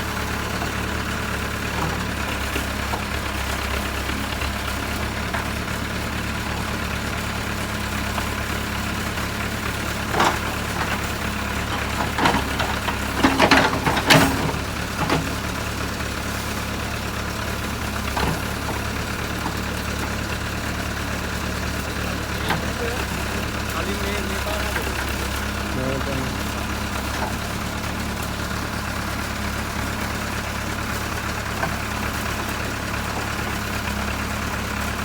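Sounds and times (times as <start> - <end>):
diesel engine running at low revs: 0.0 - 35.0.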